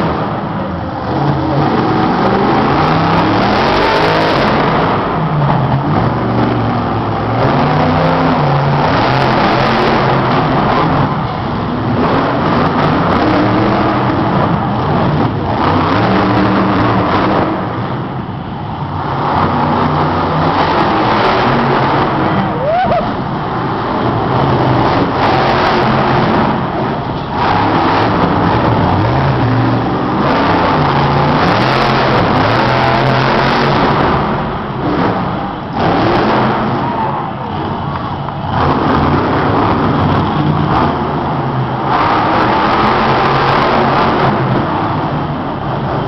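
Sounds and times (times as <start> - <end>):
truck engine revving loudly: 0.0 - 46.0.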